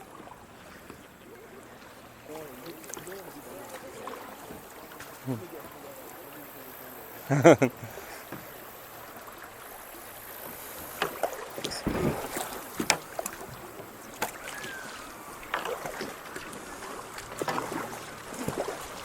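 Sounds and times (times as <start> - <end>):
paddle splashing in water: 0.0 - 19.0.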